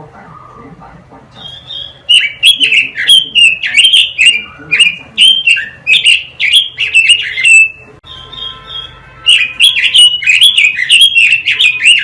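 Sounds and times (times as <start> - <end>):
songbird singing sharp notes: 1.4 - 12.0.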